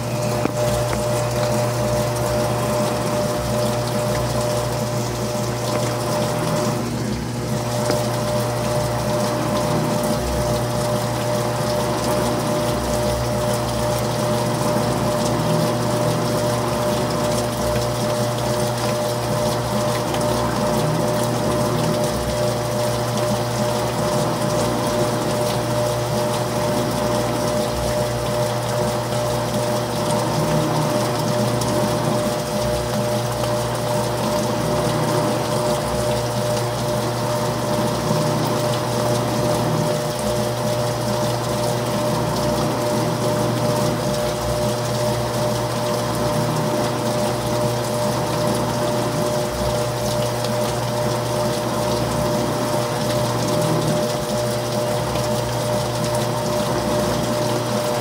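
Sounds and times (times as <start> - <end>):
washing machine motor hum: 0.0 - 58.0
water rushing: 0.0 - 58.0.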